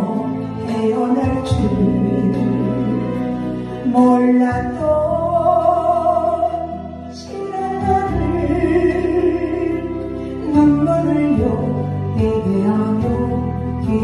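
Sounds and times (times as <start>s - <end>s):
backing track music: 0.0s - 14.0s
woman singing a hymn: 0.0s - 14.0s.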